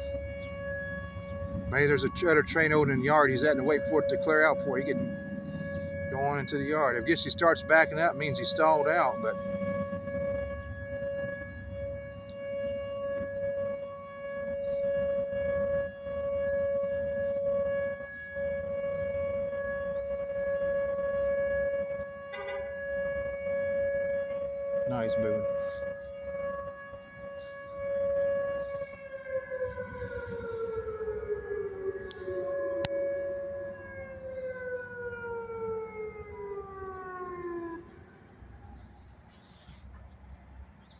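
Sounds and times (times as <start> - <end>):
tornado warning siren steady tone: 0.0 - 40.9.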